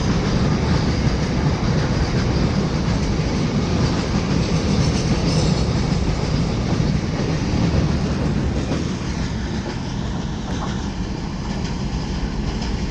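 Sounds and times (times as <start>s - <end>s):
train wagons rolling on rails: 0.0s - 12.9s.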